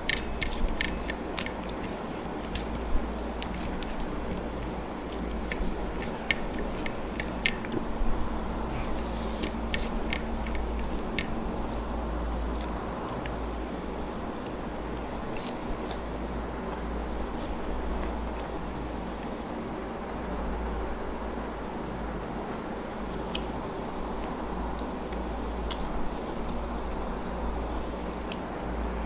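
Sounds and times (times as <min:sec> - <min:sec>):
person chewing with wet smacking: 0:00.0 - 0:11.9, 0:12.5 - 0:29.0
low background hum: 0:00.0 - 0:29.0.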